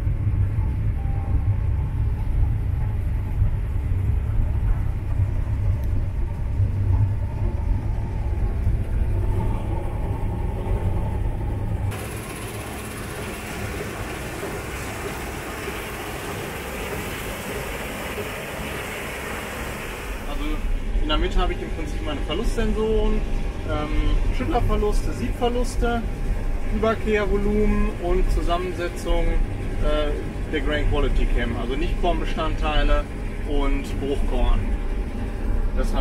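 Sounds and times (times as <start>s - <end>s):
combine harvester rumbling: 0.0s - 36.0s.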